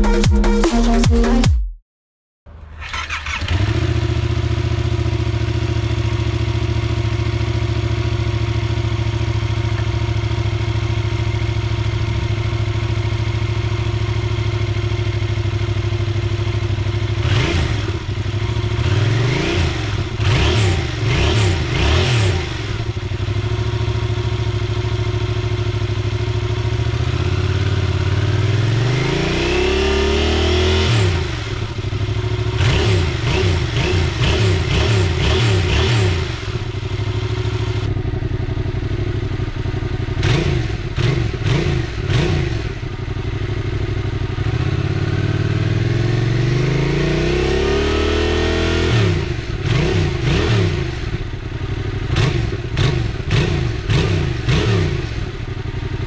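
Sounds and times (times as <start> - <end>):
motorcycle engine idling: 2.8 - 29.0, 31.1 - 46.8, 49.1 - 56.0
motorcycle throttle blips and revs: 2.8 - 56.0.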